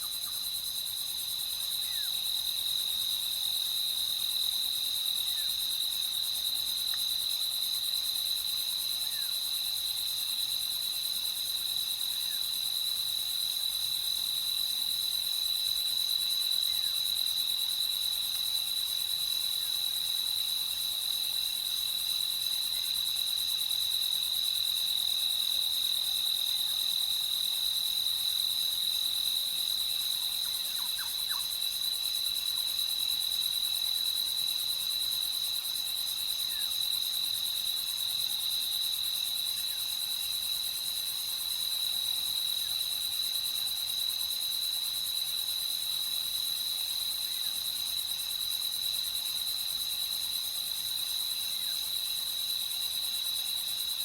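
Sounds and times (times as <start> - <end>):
constant high hiss: 0.0 - 54.0
crickets chirping: 0.0 - 54.0.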